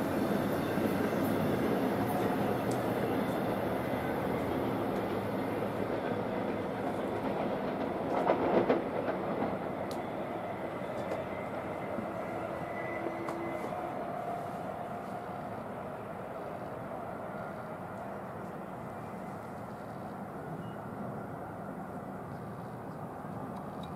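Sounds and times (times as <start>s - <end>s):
train cars rumbling on rails: 0.0s - 22.2s.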